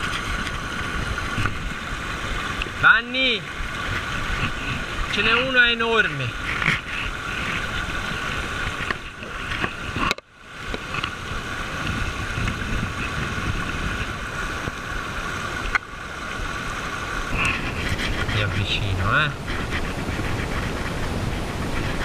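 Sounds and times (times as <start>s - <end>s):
river rushing over gravel: 0.0s - 22.0s.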